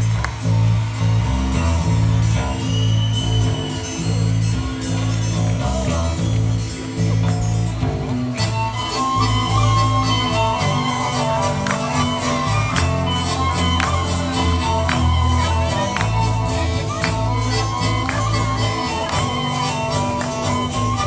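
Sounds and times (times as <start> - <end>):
folk dance music: 0.0 - 21.0.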